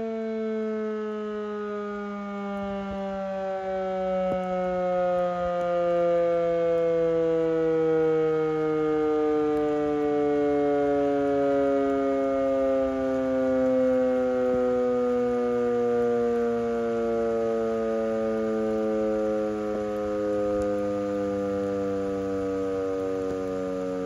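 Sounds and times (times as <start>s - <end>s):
siren winding down: 0.0s - 24.0s.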